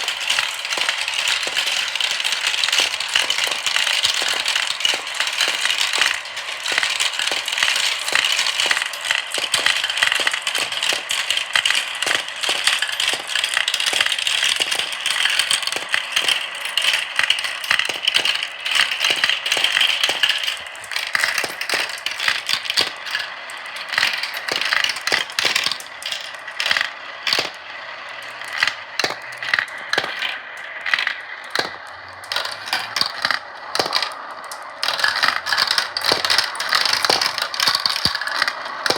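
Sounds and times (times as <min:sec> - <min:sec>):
balls clacking down marble run: 0:00.0 - 0:38.9.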